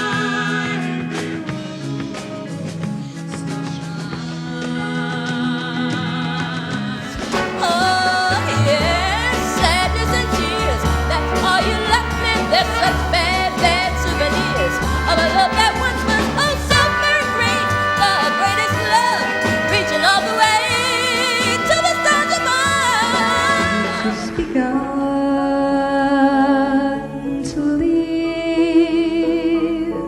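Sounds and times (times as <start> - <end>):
pop ballad music: 0.0 - 30.0.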